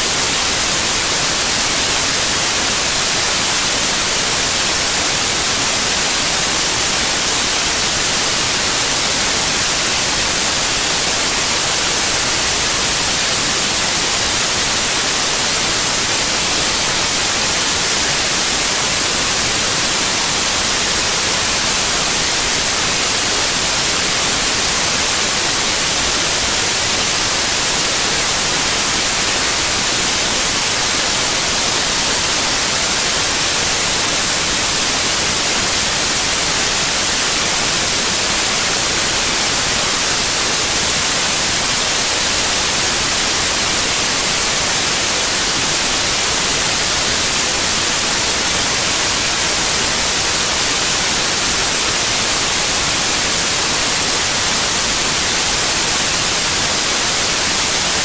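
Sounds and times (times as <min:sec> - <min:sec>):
electronic static hiss: 0:00.0 - 0:58.0.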